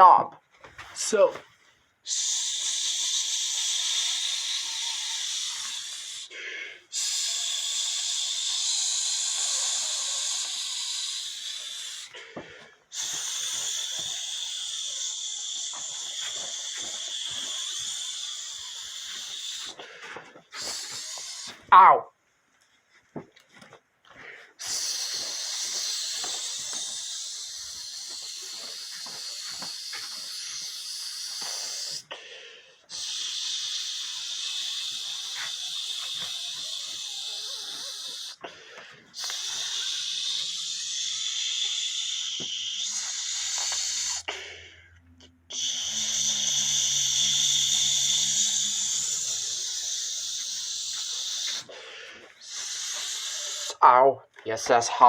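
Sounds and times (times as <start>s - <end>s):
person hissing like steam: 2.0s - 12.3s, 12.9s - 21.7s, 24.6s - 44.7s, 45.5s - 53.9s.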